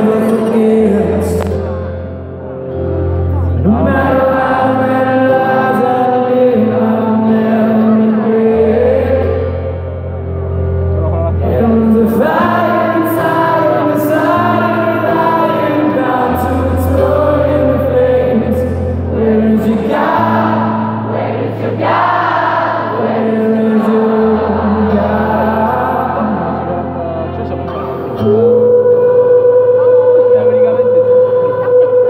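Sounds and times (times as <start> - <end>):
person singing: 0.0 - 2.0, 3.2 - 9.9, 11.2 - 32.0.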